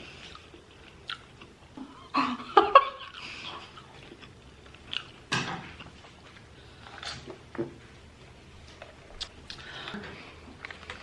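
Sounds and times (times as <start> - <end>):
person chewing: 0.0 - 2.0, 2.9 - 7.5, 8.7 - 11.0.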